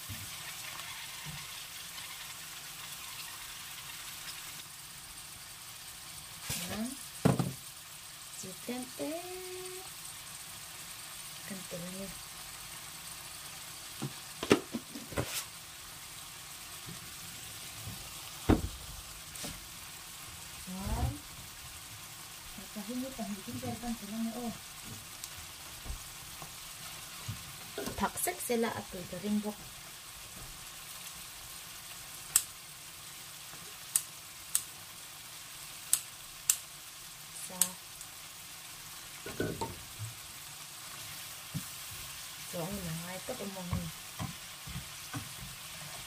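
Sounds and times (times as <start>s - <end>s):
pupae sizzling in a pan: 0.0s - 46.0s.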